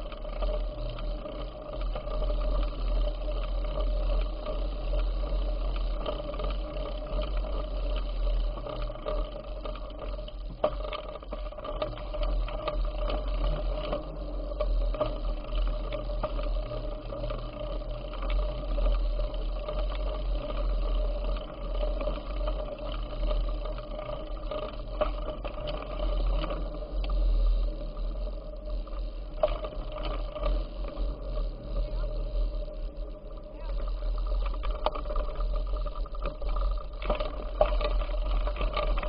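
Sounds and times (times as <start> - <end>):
clicks and rattles: 0.0 - 39.0
steady hum: 0.0 - 39.0.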